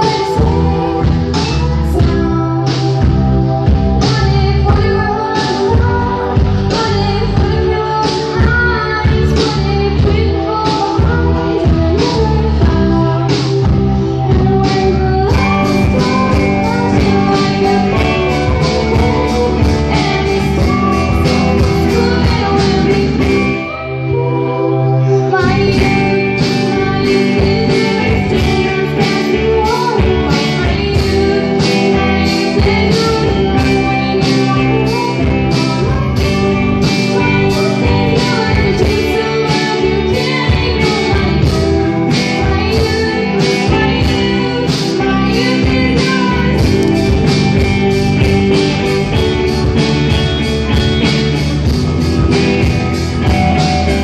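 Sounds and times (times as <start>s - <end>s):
woman singing into a microphone: 0.0s - 51.4s
keyboard over a steady beat: 0.0s - 54.0s.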